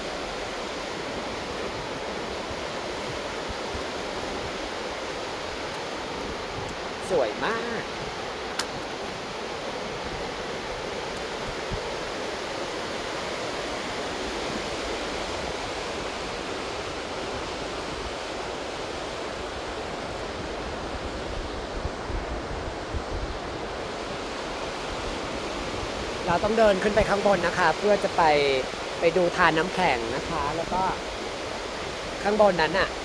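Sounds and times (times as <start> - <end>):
fast-flowing water rushing: 0.0 - 33.0
wind rumble on microphone: 0.0 - 33.0.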